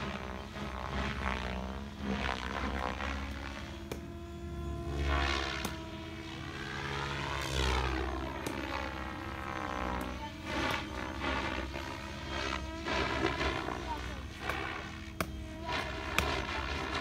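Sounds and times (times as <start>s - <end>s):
model helicopter rotor whine: 0.0s - 17.0s.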